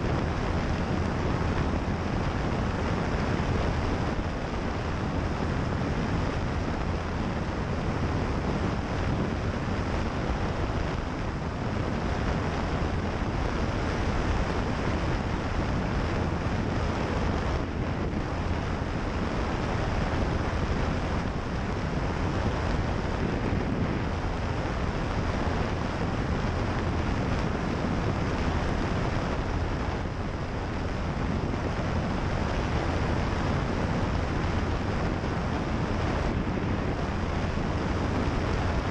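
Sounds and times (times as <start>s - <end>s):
propeller airplane engine drone: 0.0s - 38.9s
wind rushing over microphone: 0.0s - 38.9s.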